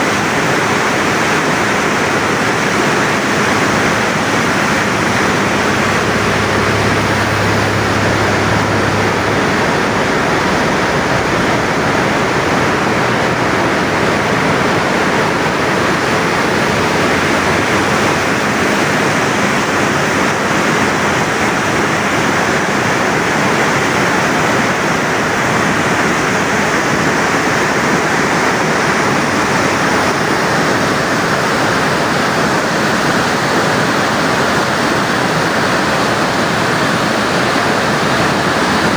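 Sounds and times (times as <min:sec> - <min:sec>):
water rushing through spillway: 0:00.0 - 0:38.9.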